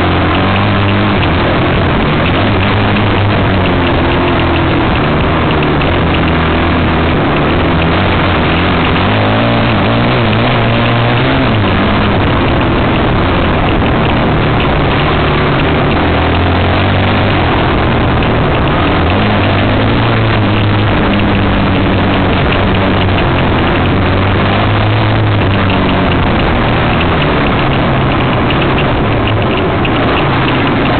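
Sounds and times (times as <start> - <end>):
dirt bike engine revving: 0.0 - 30.9
wind and ground rushing noise: 0.0 - 30.9.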